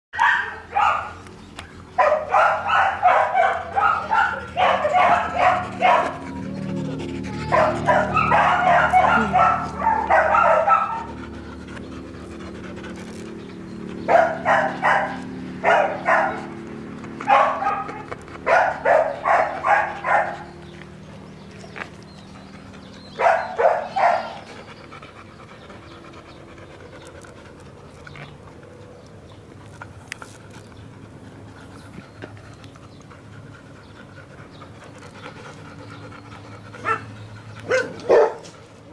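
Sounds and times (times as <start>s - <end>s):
puppy panting: 0.2s - 38.9s.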